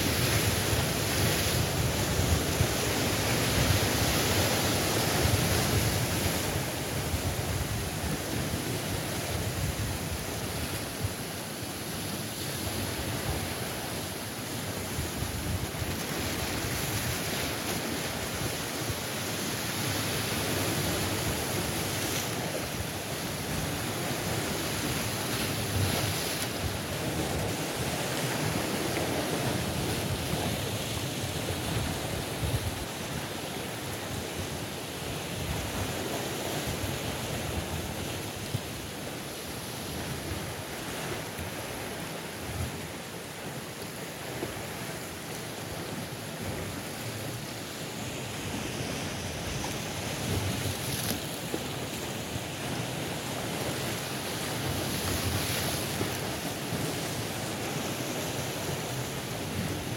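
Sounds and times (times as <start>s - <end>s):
waves breaking over rocks: 0.0s - 59.9s.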